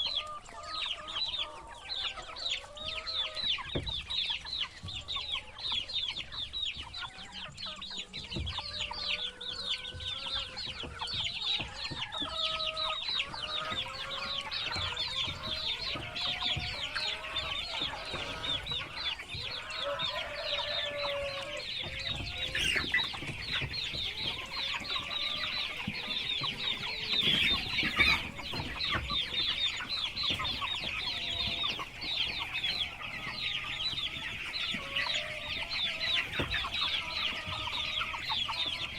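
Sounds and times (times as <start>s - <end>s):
baby chicks peeping: 0.0s - 38.9s
low clucking calls: 0.0s - 38.9s.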